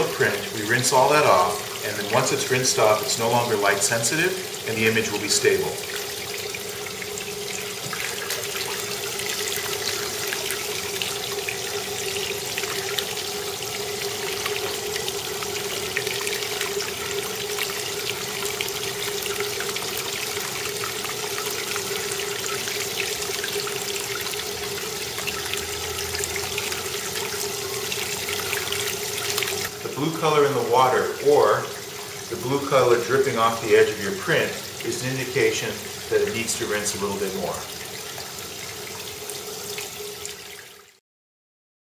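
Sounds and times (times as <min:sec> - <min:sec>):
tap water running into tub: 0:00.0 - 0:41.0.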